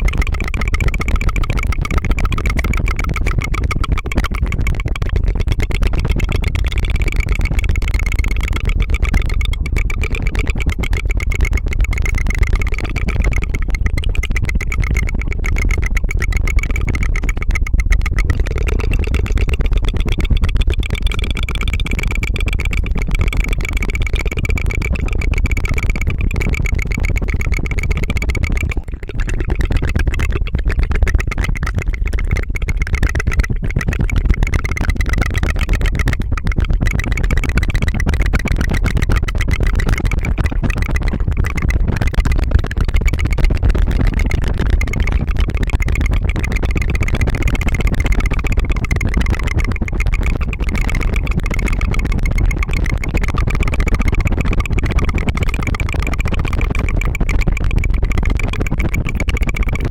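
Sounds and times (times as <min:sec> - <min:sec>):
tongue fluttering trill: 0:00.0 - 0:59.9.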